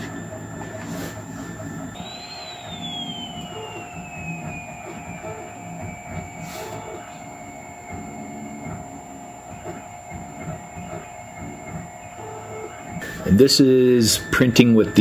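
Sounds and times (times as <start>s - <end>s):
steady high whine: 0.0s - 15.0s
stepper motors whirring: 0.0s - 15.0s.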